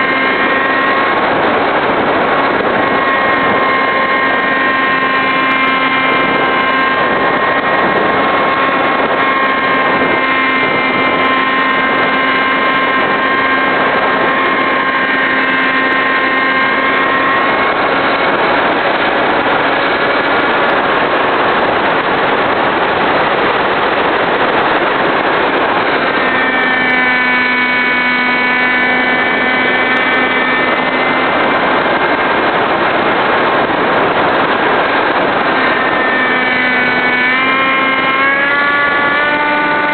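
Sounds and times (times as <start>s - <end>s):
model plane motor whining: 0.0s - 39.9s
wind rush on microphone: 0.0s - 39.9s.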